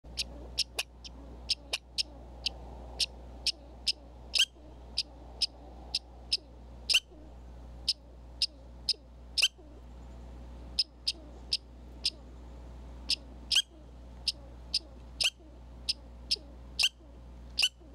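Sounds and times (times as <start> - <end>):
squirrel chirping calls: 0.1 - 17.9.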